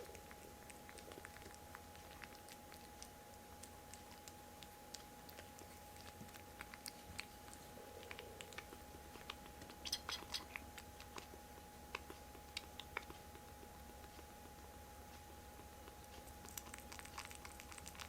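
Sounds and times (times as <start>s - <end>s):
kittens chewing: 0.0s - 18.0s.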